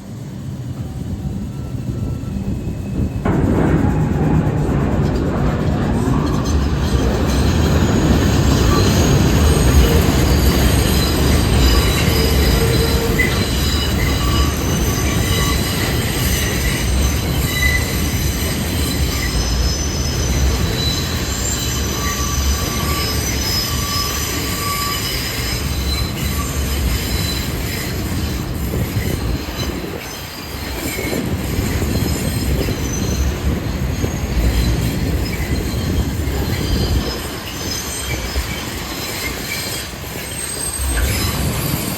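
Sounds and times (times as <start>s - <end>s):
subway train rumble: 0.0s - 41.9s
subway wheels squealing: 0.0s - 41.9s.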